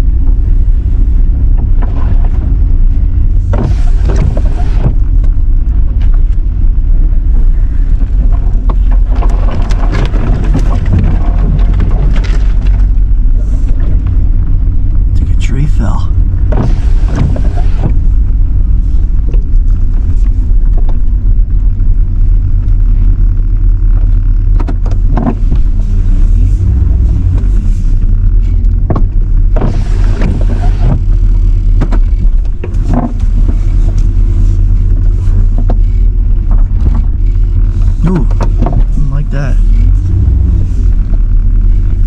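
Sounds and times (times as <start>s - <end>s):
truck engine and tyres rumbling: 0.0s - 42.0s.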